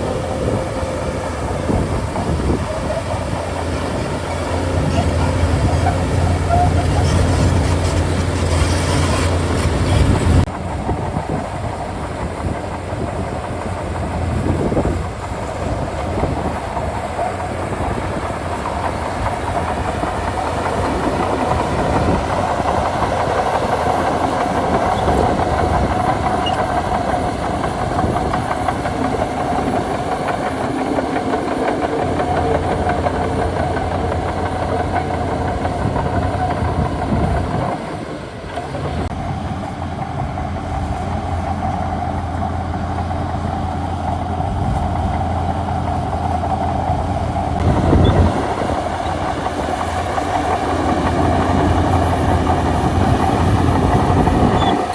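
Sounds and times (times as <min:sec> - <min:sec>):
diesel engine running: 0:00.0 - 0:54.9
steel tracks clanking: 0:00.0 - 0:54.9.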